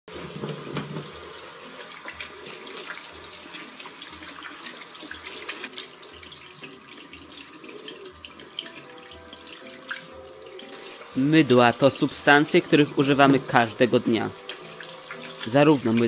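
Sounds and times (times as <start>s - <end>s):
tap water running into sink: 0.1s - 16.0s.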